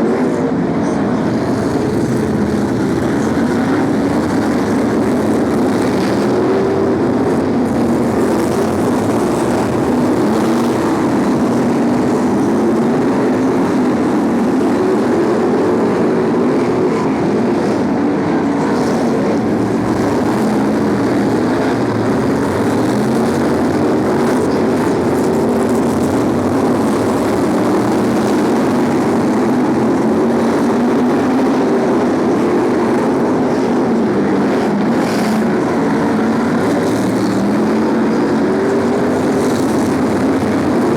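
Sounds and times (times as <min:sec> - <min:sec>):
racing car engines: 0:00.0 - 0:40.9.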